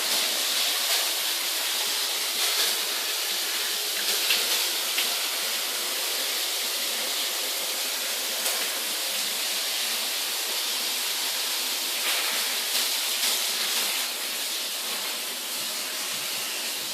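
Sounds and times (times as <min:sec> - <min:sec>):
water jet spraying: 0:00.0 - 0:16.9.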